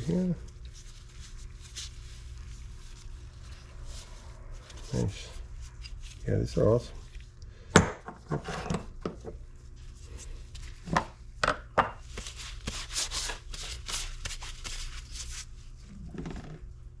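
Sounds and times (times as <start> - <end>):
low steady shop hum: 0.0 - 17.0.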